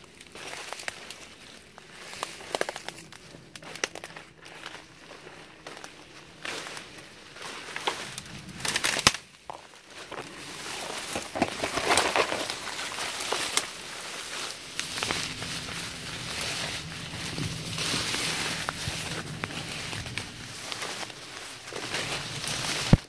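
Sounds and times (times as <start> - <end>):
footsteps crunching through dry brush: 0.0 - 23.0.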